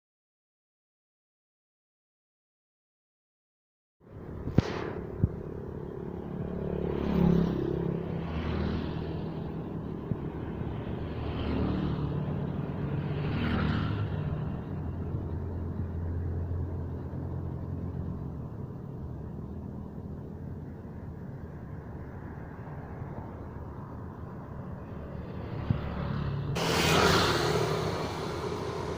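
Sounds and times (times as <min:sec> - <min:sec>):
vehicles passing: 0:04.1 - 0:28.9.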